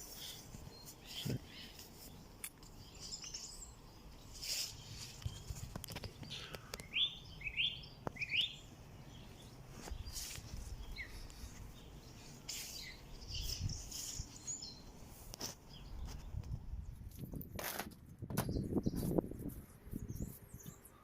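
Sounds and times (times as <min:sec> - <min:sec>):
small birds chirping: 0:00.0 - 0:17.4, 0:18.4 - 0:21.0
outdoor background noise: 0:00.0 - 0:21.0.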